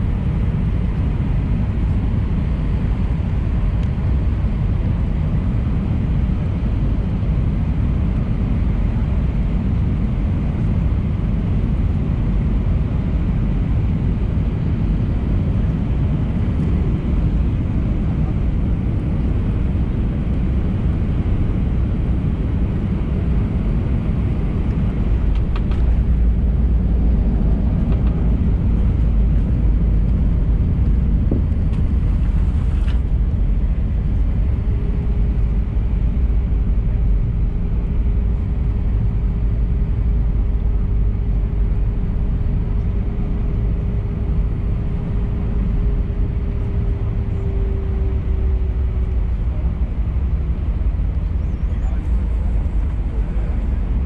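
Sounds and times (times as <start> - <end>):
airliner cabin rumble: 0.0 - 54.0
faint engine tone: 0.0 - 54.0.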